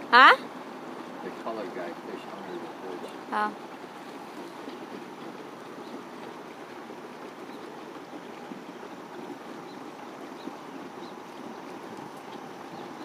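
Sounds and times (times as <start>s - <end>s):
motorboat engine and water rush: 0.0s - 13.0s.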